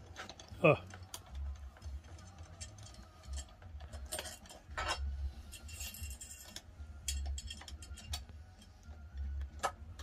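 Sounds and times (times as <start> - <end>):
metal clinks rattles and scrapes: 0.0 - 10.0.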